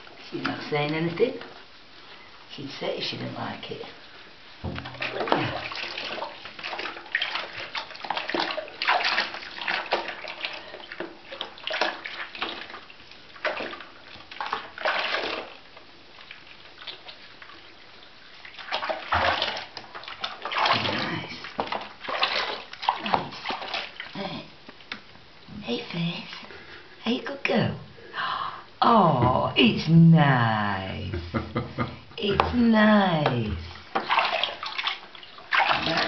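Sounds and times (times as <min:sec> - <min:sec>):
water sloshing in a plastic basin: 0:00.0 - 0:28.0, 0:31.6 - 0:36.0.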